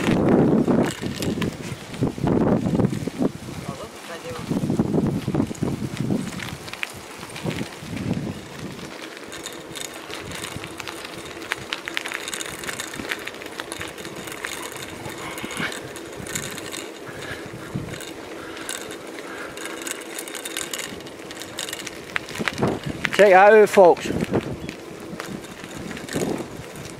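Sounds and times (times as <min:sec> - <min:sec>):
bicycle tyres on rough road: 0:00.0 - 0:26.9
bike clicks and rattles: 0:00.0 - 0:26.9.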